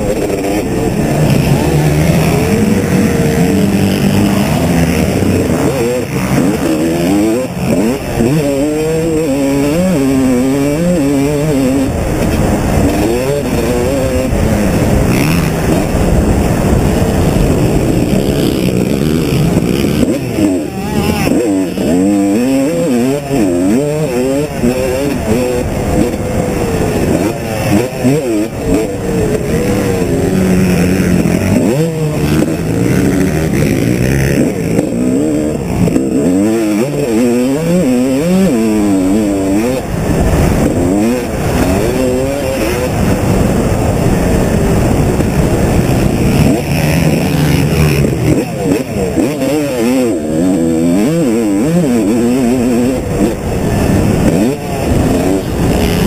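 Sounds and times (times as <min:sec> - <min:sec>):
motocross bike engine revving: 0:00.0 - 0:56.0
track rumble: 0:00.0 - 0:56.0
wind: 0:00.0 - 0:56.0.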